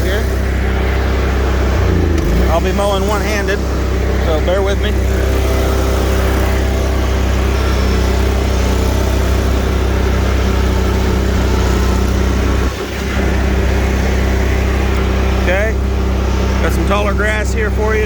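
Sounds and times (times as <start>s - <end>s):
mower blades spinning: 0.0s - 18.0s
mower engine running: 0.0s - 18.0s.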